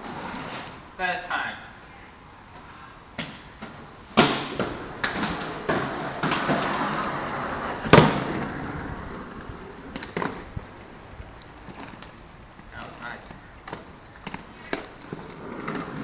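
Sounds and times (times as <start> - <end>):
skate wheels rolling on concrete: 0.0 - 1.0, 2.2 - 16.0
skates clacking on ground: 2.6 - 16.0.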